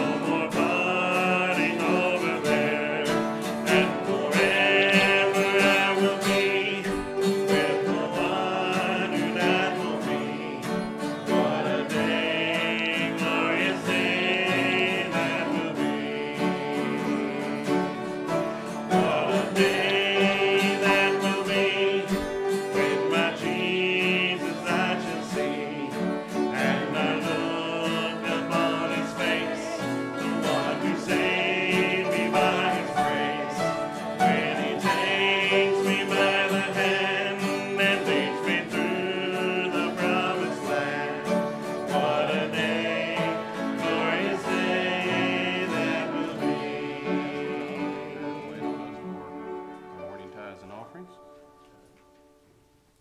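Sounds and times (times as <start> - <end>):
voices singing a hymn: 0.0 - 51.1
acoustic guitar strumming: 0.0 - 52.8
piano: 0.0 - 53.0.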